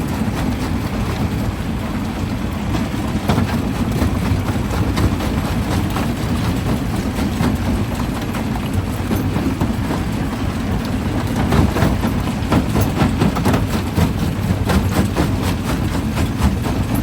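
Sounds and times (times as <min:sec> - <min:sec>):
rock crusher rumbling: 0:00.0 - 0:17.0.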